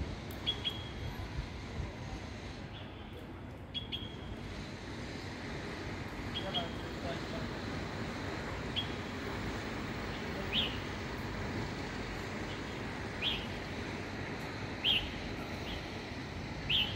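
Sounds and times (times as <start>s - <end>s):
distant city traffic hum: 0.0s - 16.9s.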